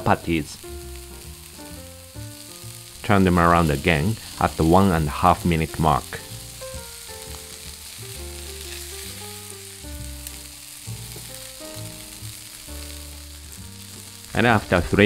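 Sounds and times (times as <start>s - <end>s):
patties sizzling in a frying pan: 0.0s - 15.0s
soft background music: 0.0s - 15.0s.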